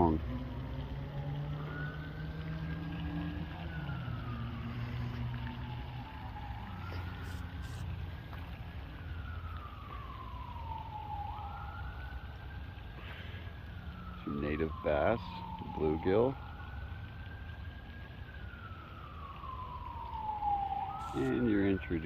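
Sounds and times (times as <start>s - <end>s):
emergency vehicle siren wailing: 0.0s - 22.0s.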